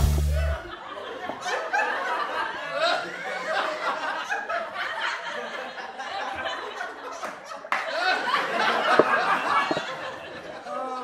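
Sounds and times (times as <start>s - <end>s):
people laughing and exclaiming: 0.0s - 11.0s.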